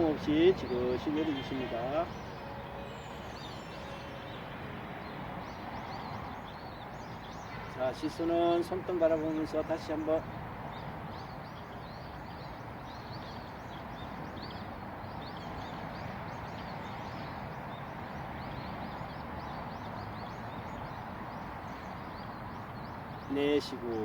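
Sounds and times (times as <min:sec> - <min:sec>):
outdoor background rush: 0:00.0 - 0:24.0
small birds chirping: 0:00.0 - 0:24.0.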